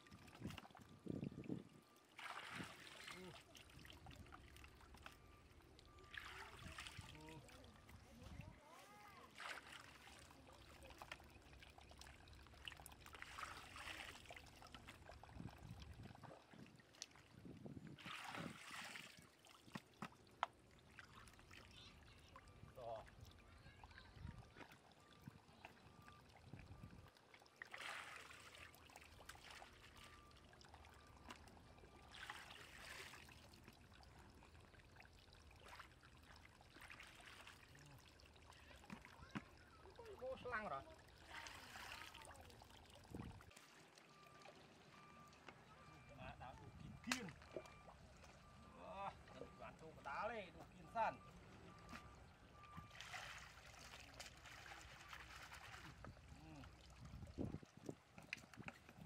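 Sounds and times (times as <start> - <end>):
small drips and knocks: 0.0 - 8.4, 9.2 - 59.0
water trickling into bucket: 0.0 - 59.0.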